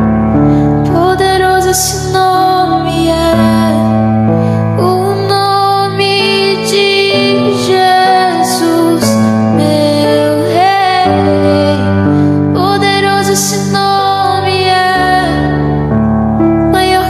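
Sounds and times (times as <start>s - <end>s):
sustained keyboard chords: 0.0s - 17.0s
woman singing: 0.8s - 15.8s, 16.5s - 17.0s.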